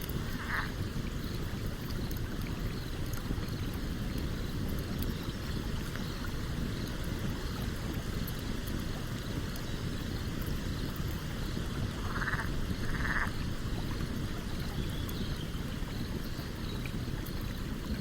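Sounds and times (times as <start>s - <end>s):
campfire crackling: 0.0s - 18.0s
stream water running: 0.0s - 18.0s.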